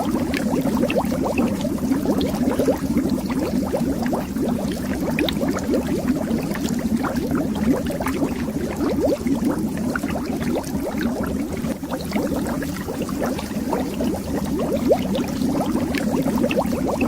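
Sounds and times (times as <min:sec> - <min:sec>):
bubbles underwater: 0:00.0 - 0:17.0
low watery rumble: 0:00.0 - 0:17.0.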